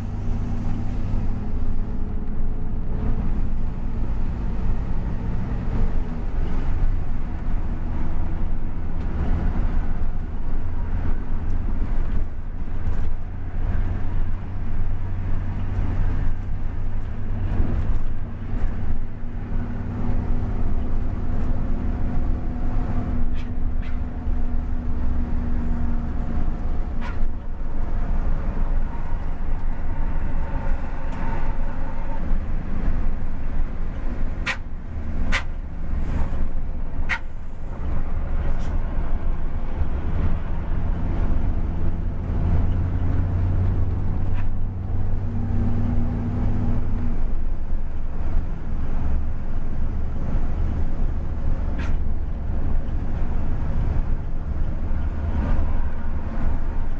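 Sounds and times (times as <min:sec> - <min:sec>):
bus engine rumble: 0:00.0 - 0:56.9.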